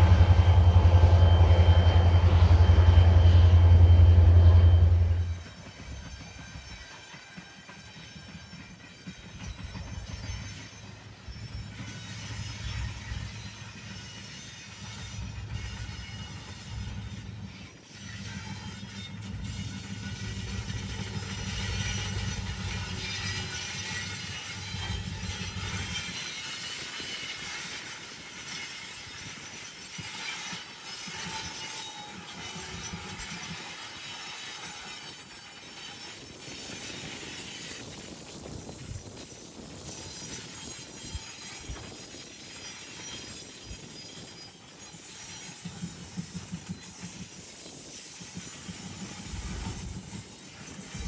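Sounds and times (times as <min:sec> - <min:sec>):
high-pitched wheel squeal: 0:00.0 - 0:47.2
train wheels rumbling on rails: 0:00.0 - 0:51.0.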